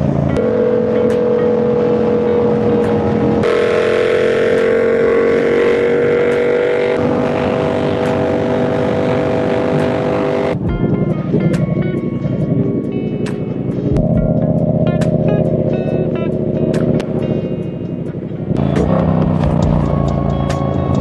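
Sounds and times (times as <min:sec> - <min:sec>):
motorcycle engine cruising: 0:00.0 - 0:21.0
rushing wind: 0:00.0 - 0:21.0.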